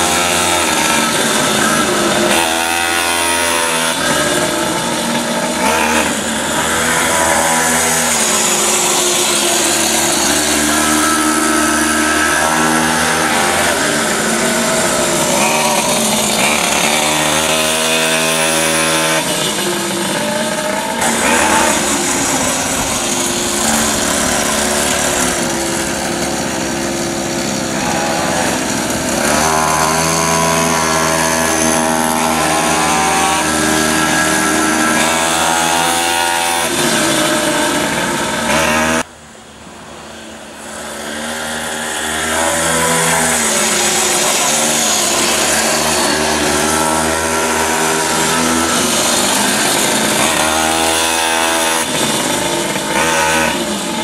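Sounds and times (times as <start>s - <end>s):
small two-stroke engine revving: 0.0s - 39.2s, 39.8s - 54.0s.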